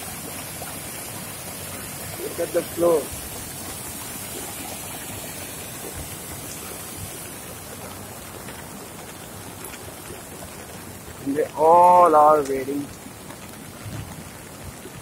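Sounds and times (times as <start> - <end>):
heavy rain on an umbrella: 0.0 - 15.0
rushing floodwater: 0.0 - 15.0.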